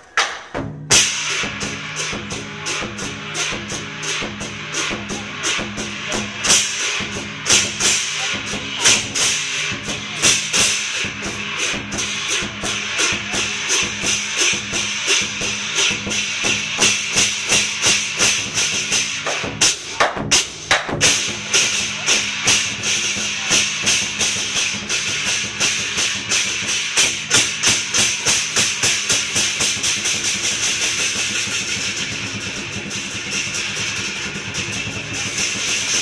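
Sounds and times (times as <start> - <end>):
cymbal clashes: 0.0 - 36.0
drum beating fast rhythm: 0.0 - 36.0.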